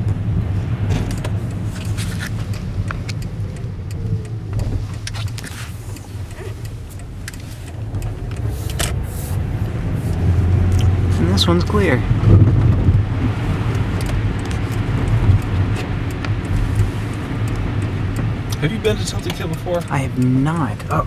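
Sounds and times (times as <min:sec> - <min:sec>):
car engine and road rumble: 0:00.0 - 0:21.0
light clicks and ticks: 0:01.0 - 0:11.0, 0:13.6 - 0:21.0.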